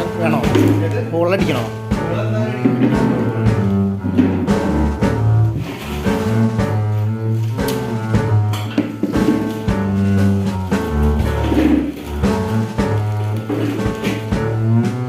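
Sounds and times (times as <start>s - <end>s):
double bass line: 0.0s - 15.0s
string instruments: 0.0s - 15.0s.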